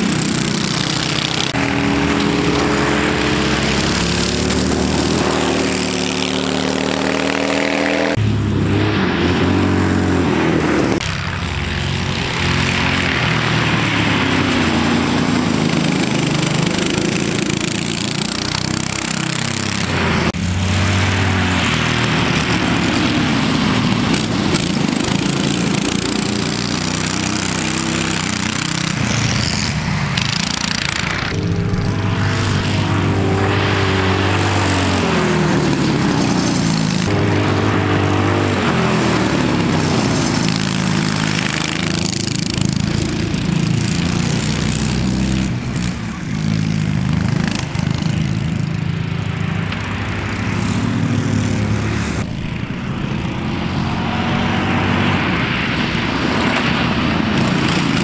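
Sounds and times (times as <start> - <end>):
go-kart engines racing: 0.0 - 58.0.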